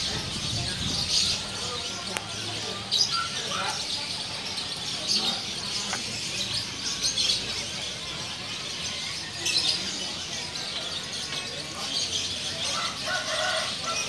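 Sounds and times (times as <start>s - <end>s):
caged birds chirping: 0.0s - 14.0s
people talking: 0.0s - 14.0s.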